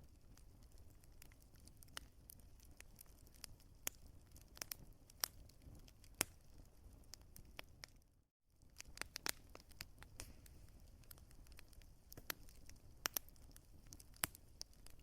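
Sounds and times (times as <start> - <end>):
low rumble of flames: 0.0 - 15.0
burning logs popping: 0.1 - 8.0, 8.6 - 15.0.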